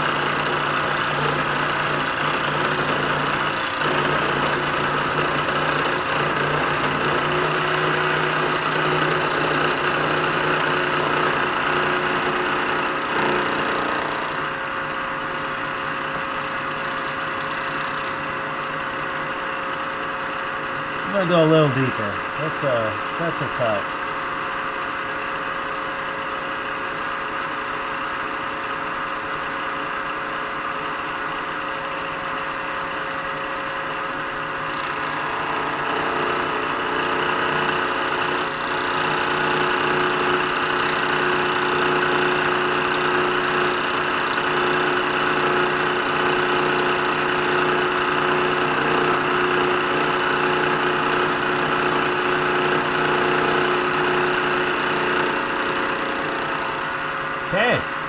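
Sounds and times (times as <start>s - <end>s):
cutter milling brass: 0.0s - 24.7s, 33.9s - 58.0s
milling machine hum: 0.0s - 25.5s, 34.6s - 58.0s.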